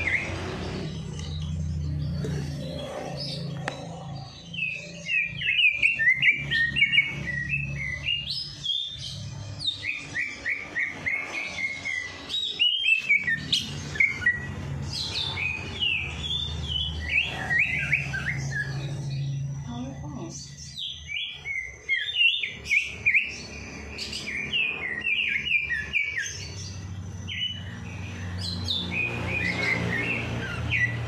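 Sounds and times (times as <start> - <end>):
songbird chirping song: 0.0 - 31.0.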